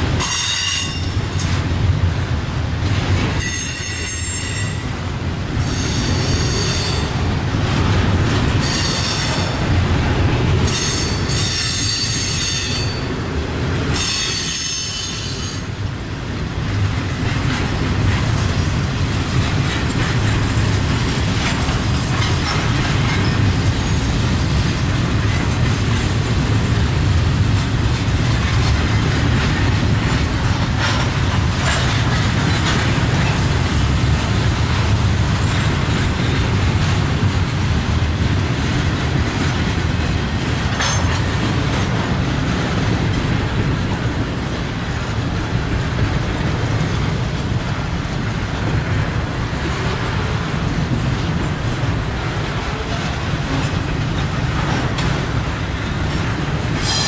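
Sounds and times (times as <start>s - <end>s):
freight train wheels rumbling on rail: 0.0s - 57.0s.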